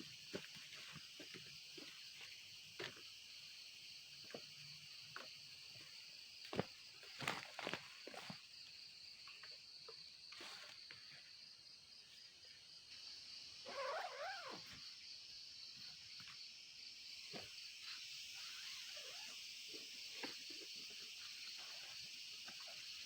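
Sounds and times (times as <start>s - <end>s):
pulsing high insect chorus: 0.0s - 23.0s.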